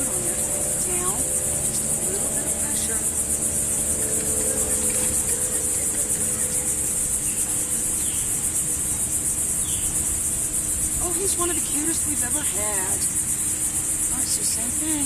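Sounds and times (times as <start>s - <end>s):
low background rumble: 0.0s - 15.0s
shrill insect chorus: 0.0s - 15.0s.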